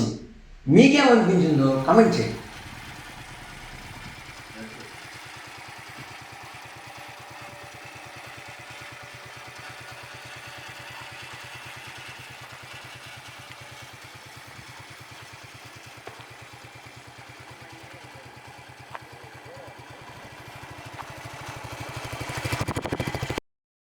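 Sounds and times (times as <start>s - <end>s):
motorcycle engine idling: 1.2s - 23.4s.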